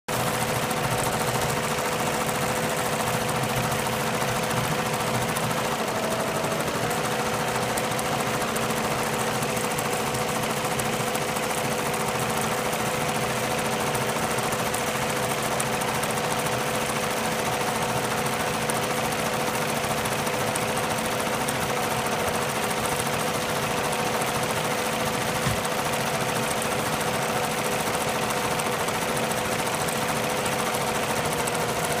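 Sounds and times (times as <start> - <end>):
embroidery machine stitching: 0.1 - 32.0.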